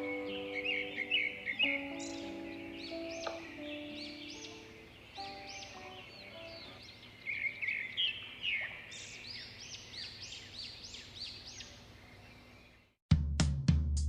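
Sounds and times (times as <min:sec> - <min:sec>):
high arched bird chirps: 0:00.0 - 0:12.6
small birds chattering: 0:00.0 - 0:13.0.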